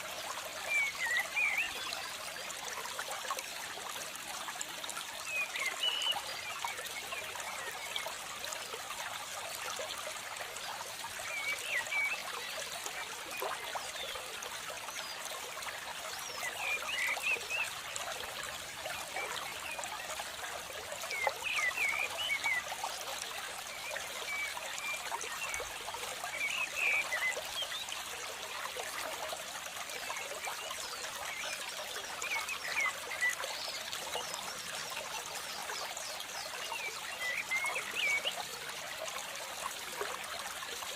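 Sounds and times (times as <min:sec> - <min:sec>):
trickling stream water: 0:00.0 - 0:40.9.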